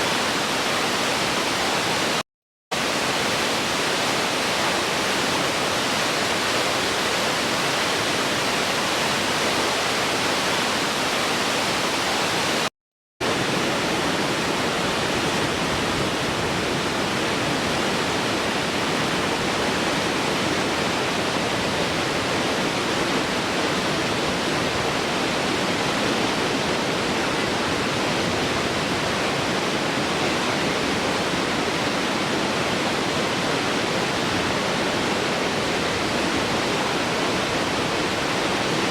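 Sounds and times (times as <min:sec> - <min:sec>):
waterfall roaring: 0:00.0 - 0:02.2, 0:02.8 - 0:38.9.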